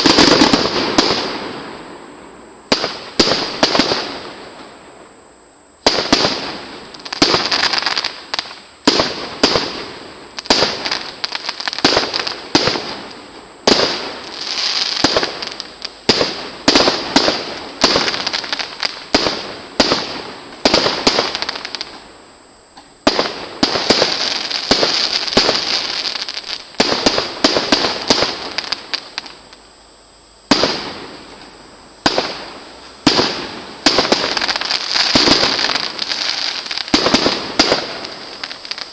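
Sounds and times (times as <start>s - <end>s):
firework crackling: 0.0s - 38.9s.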